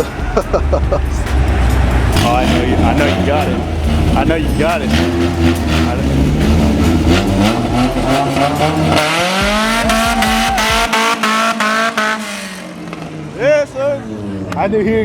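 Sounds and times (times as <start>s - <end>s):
car engine revving hard: 0.1s - 13.4s.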